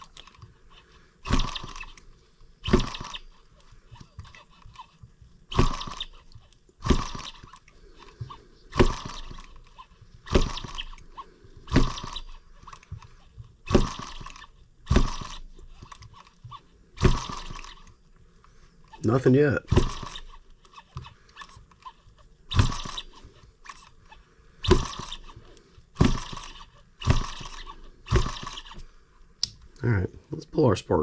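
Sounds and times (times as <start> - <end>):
engine puffs turned by hand: 0.0 - 30.5.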